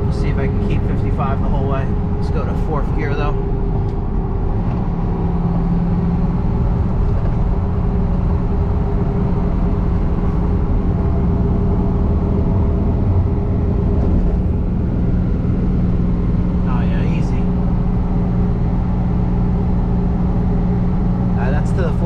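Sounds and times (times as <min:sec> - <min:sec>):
road noise: 0:00.0 - 0:22.0
truck engine under load: 0:00.0 - 0:22.0.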